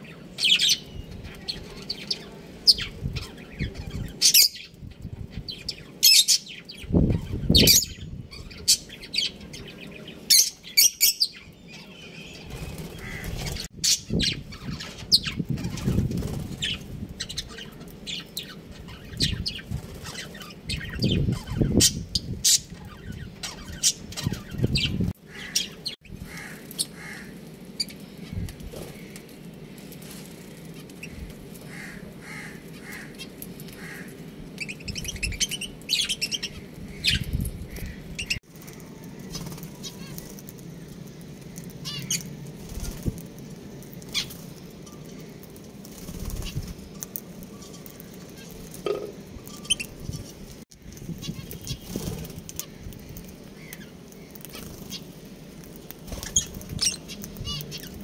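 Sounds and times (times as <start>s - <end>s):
birds chirping and twittering: 0.0s - 58.0s
wings fluttering: 6.8s - 58.0s.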